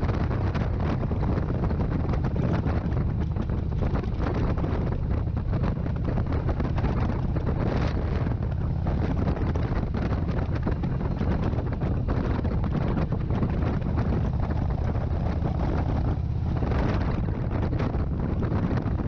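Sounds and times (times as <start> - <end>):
motorcycle engine cruising: 0.0 - 19.0
wind buffeting microphone: 0.0 - 19.0.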